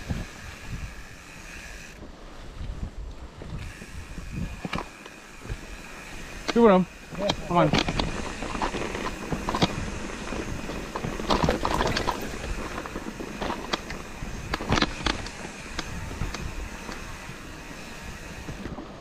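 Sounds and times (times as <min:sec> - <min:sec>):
wind rustle on microphone: 0:00.0 - 0:19.0
mountain bike rattling and knocking: 0:03.4 - 0:19.0.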